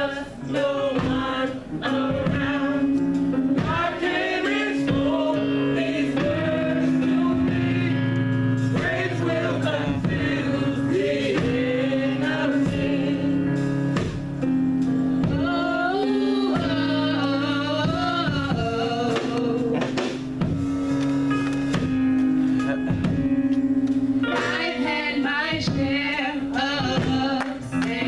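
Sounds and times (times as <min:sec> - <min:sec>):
gospel singing: 0:00.0 - 0:22.0, 0:24.2 - 0:28.0.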